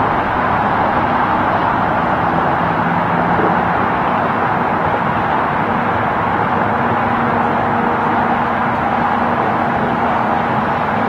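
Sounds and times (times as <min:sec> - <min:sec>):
faint engine hum: 0:00.0 - 0:11.0
highway tyre noise: 0:00.0 - 0:11.0.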